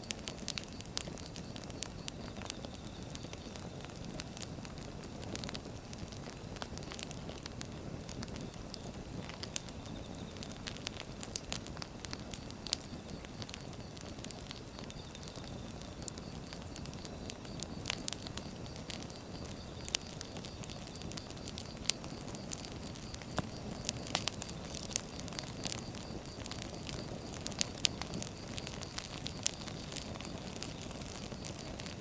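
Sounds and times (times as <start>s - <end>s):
firewood crackling and popping: 0.0s - 32.0s
low rush of flame: 0.0s - 32.0s.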